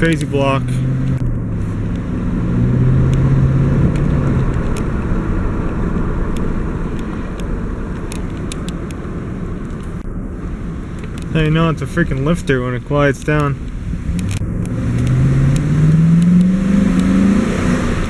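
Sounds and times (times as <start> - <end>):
truck engine humming: 0.0 - 18.0.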